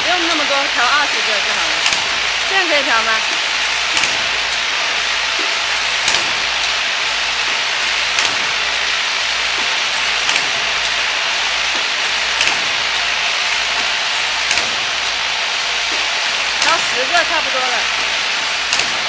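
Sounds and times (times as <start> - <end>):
machine hissing: 0.0 - 19.0
mechanical clack: 0.0 - 19.0.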